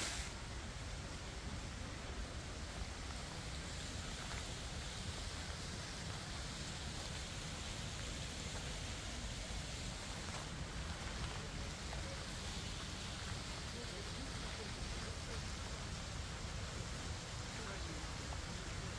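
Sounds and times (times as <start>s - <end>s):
fountain water splashing: 0.0s - 18.9s.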